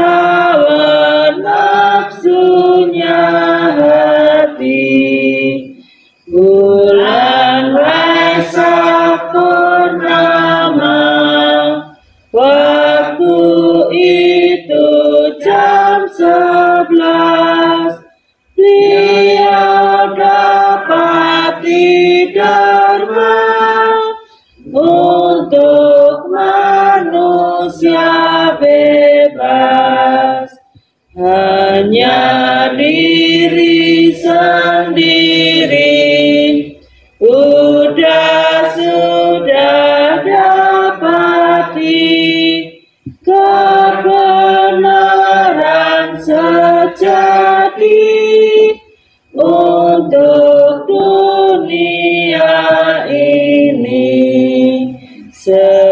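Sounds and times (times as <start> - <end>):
group singing devotional song: 0.0 - 55.9.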